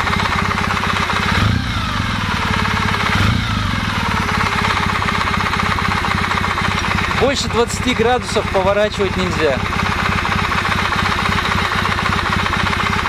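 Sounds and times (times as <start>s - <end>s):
engine gear knocking: 0.0s - 13.0s
motorcycle engine idling: 0.0s - 13.0s.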